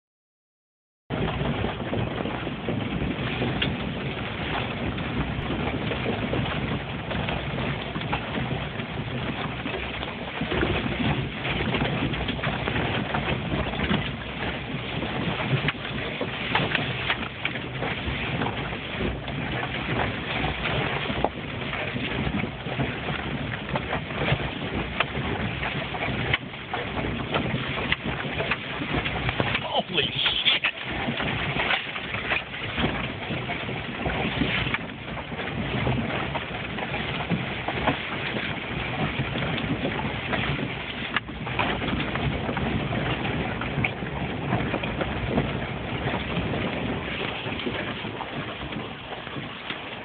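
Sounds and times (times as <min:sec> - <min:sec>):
vehicle engine and tyre rumble: 0:01.1 - 0:50.0.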